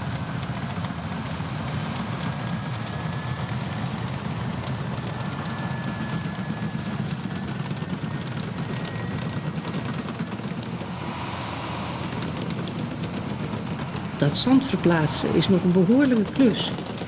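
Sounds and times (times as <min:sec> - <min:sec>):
bulldozer diesel engine rumbling: 0:00.0 - 0:17.0.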